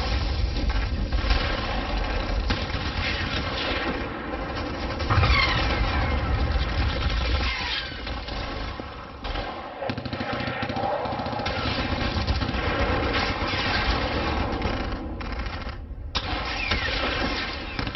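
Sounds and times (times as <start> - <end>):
continuous gunfire: 0.0 - 17.9
explosions rumbling: 0.0 - 17.9.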